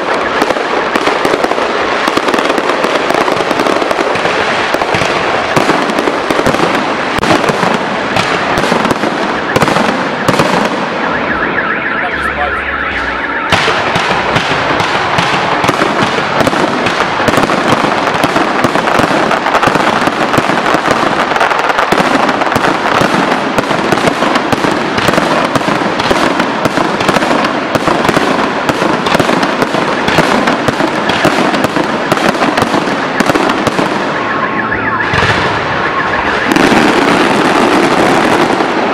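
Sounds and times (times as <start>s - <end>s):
fireworks bursts and crackle: 0.0s - 38.9s.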